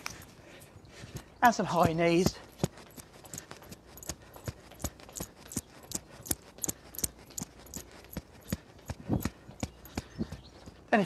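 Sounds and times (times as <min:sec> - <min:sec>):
running footsteps on stone paving: 0:00.0 - 0:11.0.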